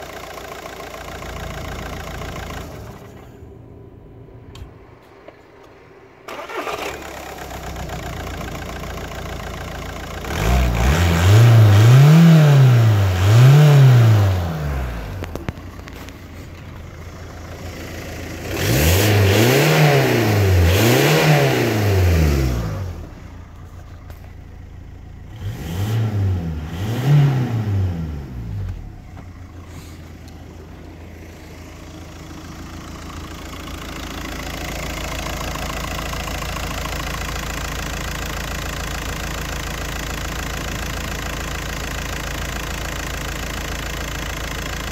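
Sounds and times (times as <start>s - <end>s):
diesel engine idling and revving: 0.0s - 44.9s.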